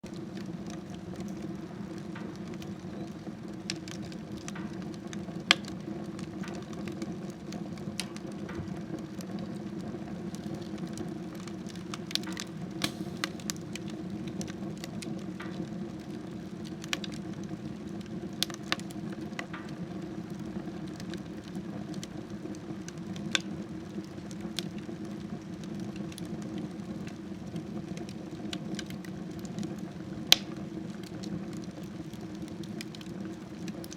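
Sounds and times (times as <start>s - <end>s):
burning wood crackling and popping: 0.0s - 33.9s
wood fire rushing: 0.0s - 33.9s.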